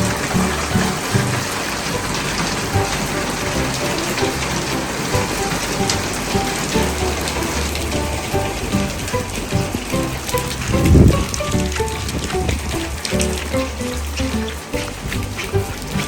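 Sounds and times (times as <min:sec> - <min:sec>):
rain splashing on surfaces: 0:00.0 - 0:16.0
short musical notes: 0:00.0 - 0:16.0.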